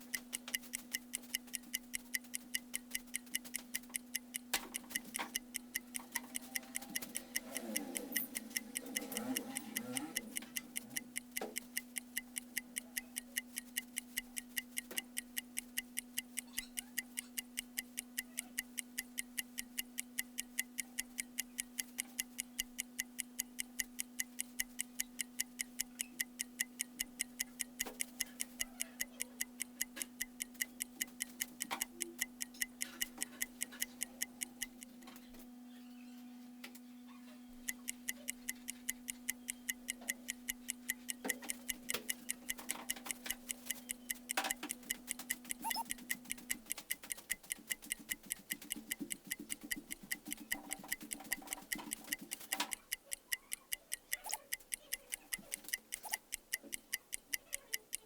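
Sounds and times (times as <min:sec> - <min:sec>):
fast even ticking: 0:00.0 - 0:35.0, 0:37.6 - 0:58.0.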